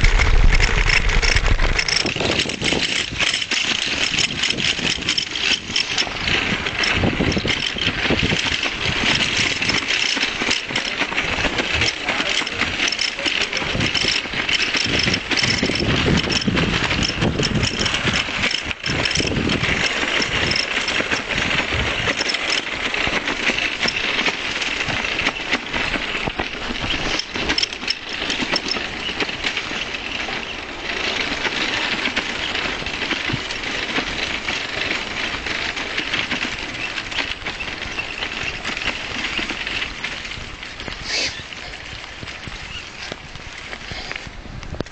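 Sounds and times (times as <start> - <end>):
bicycle rattling on street: 0.0 - 44.9.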